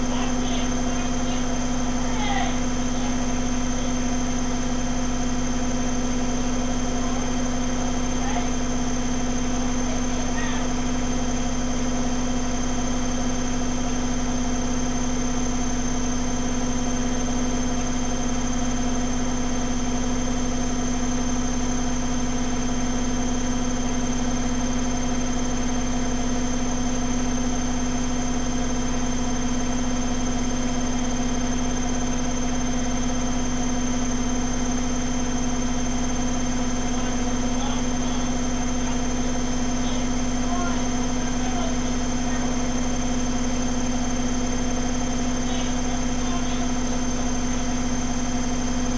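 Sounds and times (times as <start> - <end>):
washing machine spin hum: 0.0 - 48.9.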